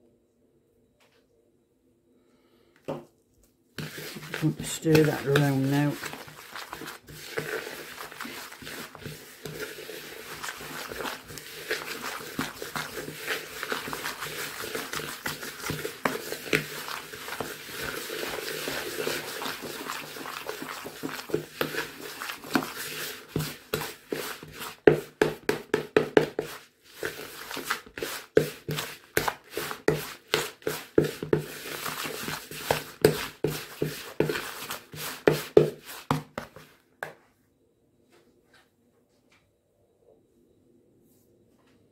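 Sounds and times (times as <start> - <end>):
spoon stirring in plastic bowl: 2.8 - 37.2.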